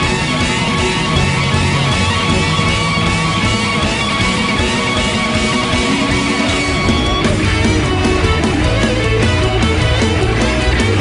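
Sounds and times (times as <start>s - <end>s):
distorted electric guitar: 0.0s - 11.0s
rock music: 0.0s - 11.0s
steady drum beat: 0.0s - 11.0s.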